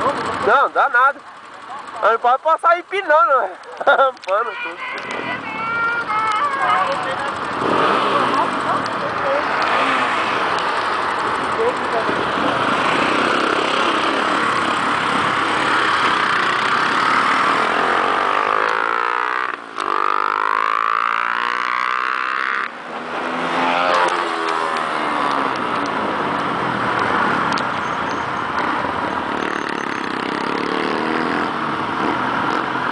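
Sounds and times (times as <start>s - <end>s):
motorcycle engines: 0.0s - 32.9s.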